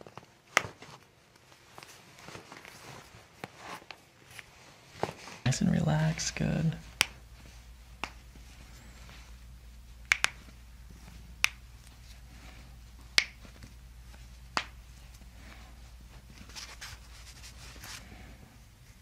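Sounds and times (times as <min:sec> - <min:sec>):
hands rustling on foot: 0:00.0 - 0:19.0.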